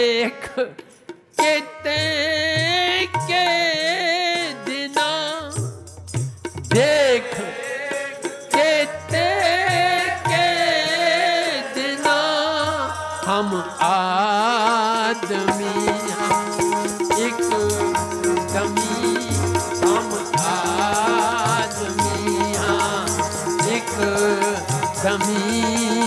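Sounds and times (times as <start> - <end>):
harmonium chords: 0.0 - 5.8, 6.7 - 26.0
person singing with vibrato: 0.0 - 5.8, 6.7 - 26.0.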